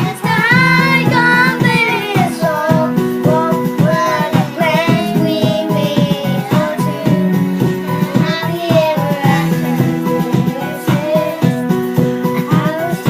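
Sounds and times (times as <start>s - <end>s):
child singing: 0.0s - 13.0s
instrumental backing track: 0.0s - 13.0s.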